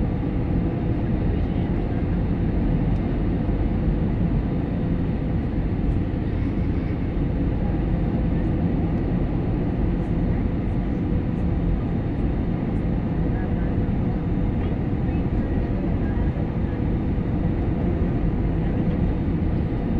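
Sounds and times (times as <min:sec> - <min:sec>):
airliner cabin engine drone: 0:00.0 - 0:19.9.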